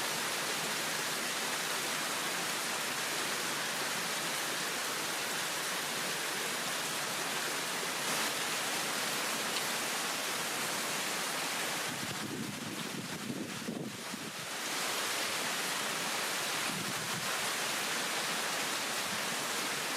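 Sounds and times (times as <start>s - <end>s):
heavy rain hissing: 0.0s - 19.9s.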